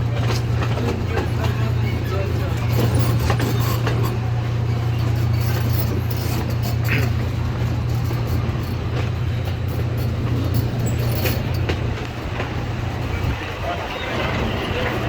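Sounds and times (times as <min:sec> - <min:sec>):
train rumbling drone: 0:00.0 - 0:15.0.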